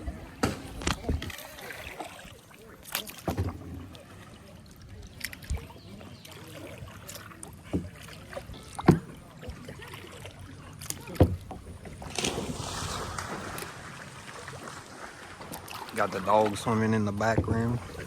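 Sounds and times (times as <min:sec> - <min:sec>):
faint water wash: 0:00.0 - 0:18.0
paddle knocking and splashing: 0:00.0 - 0:18.0.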